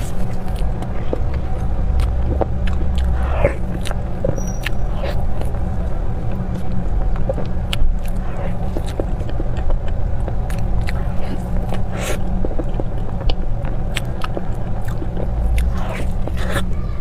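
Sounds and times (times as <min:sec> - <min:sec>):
steady low hum: 0:00.0 - 0:17.0
wet chewing and smacking: 0:00.0 - 0:17.0.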